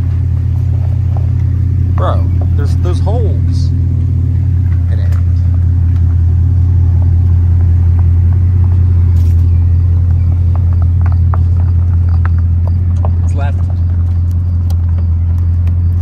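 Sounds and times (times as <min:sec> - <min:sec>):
car engine deep rumble: 0:00.0 - 0:16.0.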